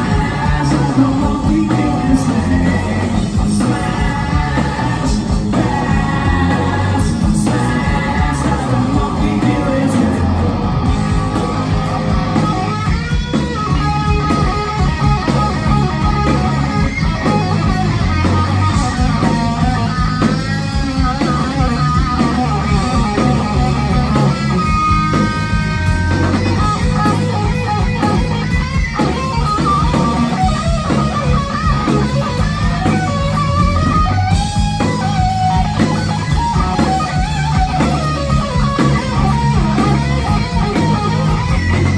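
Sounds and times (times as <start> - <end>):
bass guitar: 0.0 - 41.9
drums: 0.0 - 41.9
electric guitar lead with bent notes: 0.0 - 41.9
rhythm guitar: 0.0 - 41.9.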